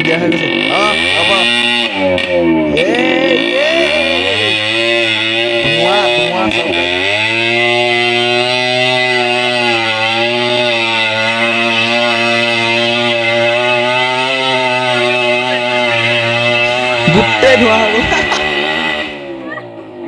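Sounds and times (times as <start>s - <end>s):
two-stroke engine revving hard: 0.0s - 20.0s.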